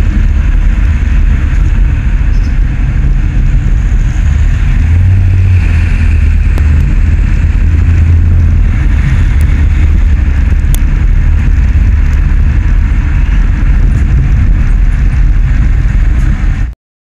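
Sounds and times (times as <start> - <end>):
vehicle road and wind rumble: 0.0 - 16.8.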